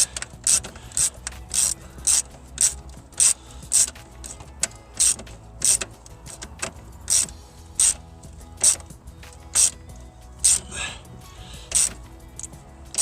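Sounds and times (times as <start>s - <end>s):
ratchet wrench clicking: 0.0s - 10.8s, 11.6s - 13.0s.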